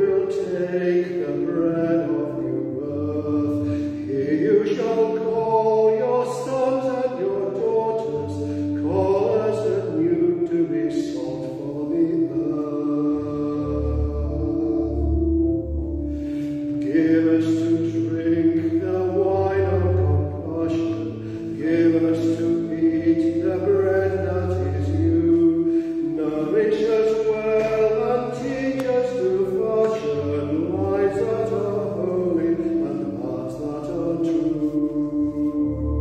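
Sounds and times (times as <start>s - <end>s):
church organ chords: 0.0s - 36.0s
man singing a hymn: 0.0s - 36.0s.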